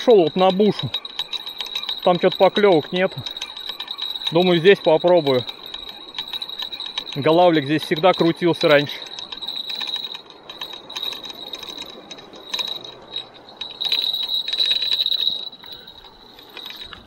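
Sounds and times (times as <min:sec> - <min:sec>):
fishing reel being cranked: 0:00.0 - 0:17.0.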